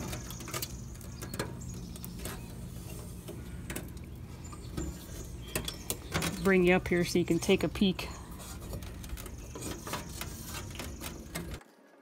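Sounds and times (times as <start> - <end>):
light clicks and knocks: 0.0 - 11.6
steady low hum: 0.0 - 11.6.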